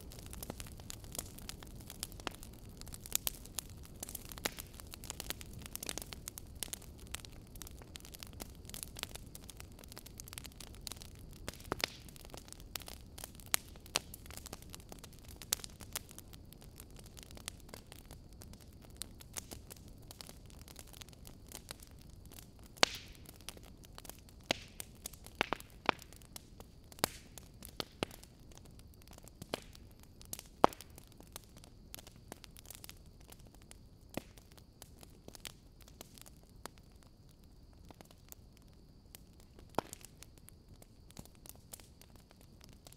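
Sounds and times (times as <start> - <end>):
faint steady hiss: 0.0 - 42.9
sharp crackles and pops: 0.0 - 42.9.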